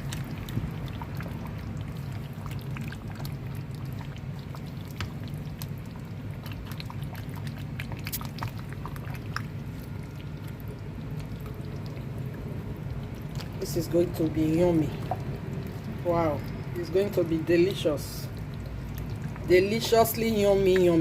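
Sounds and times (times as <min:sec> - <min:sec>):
soup simmering with pops: 0:00.0 - 0:21.0
steady low hum: 0:00.0 - 0:21.0.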